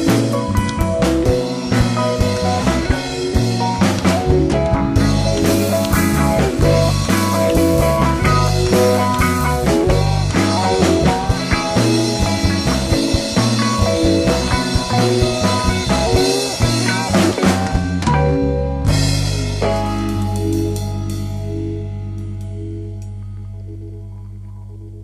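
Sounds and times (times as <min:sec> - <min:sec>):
rock music with drums and guitar: 0:00.0 - 0:23.6.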